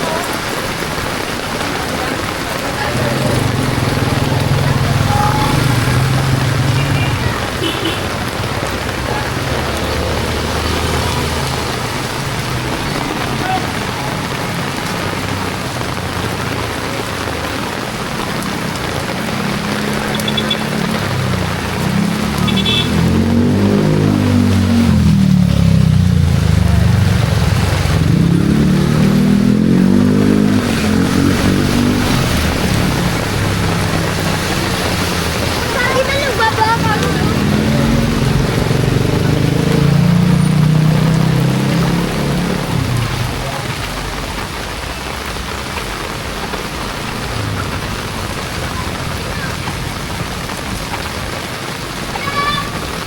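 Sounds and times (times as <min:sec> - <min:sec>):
heavy rain pouring: 0:00.0 - 0:53.0
vehicle engine accelerating: 0:00.2 - 0:52.2.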